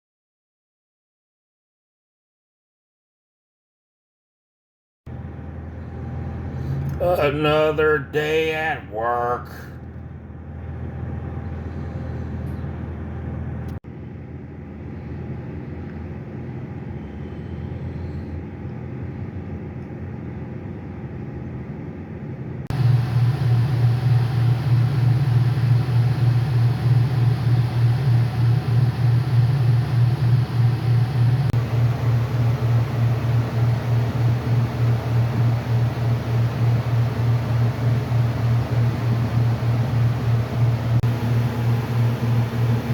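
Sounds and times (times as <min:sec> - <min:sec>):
low mechanical rumble: 0:05.1 - 0:42.9.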